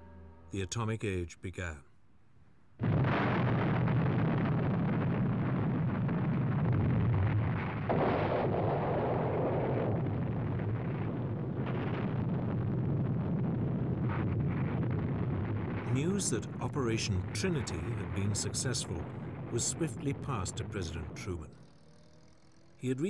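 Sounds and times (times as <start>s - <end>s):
bomb detonation: 2.8s - 22.6s
deep continuous rumble: 2.8s - 23.0s.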